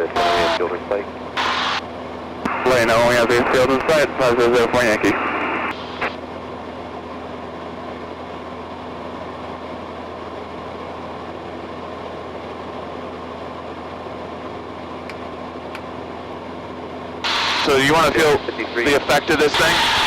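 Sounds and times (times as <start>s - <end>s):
airplane engine and propeller droning: 0.0s - 20.0s.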